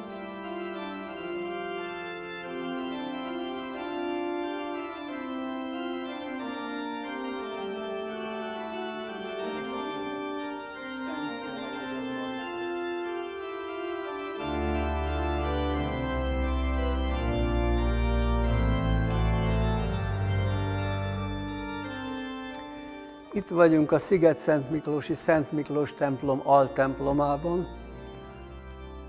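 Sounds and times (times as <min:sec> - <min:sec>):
deep organ bass notes: 0:00.0 - 0:29.0
organ playing held chords: 0:00.0 - 0:29.0.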